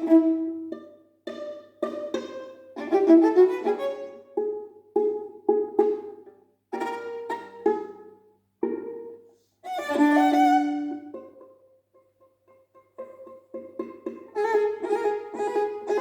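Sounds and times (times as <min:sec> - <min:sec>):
violin music: 0:00.0 - 0:11.6, 0:12.5 - 0:16.0.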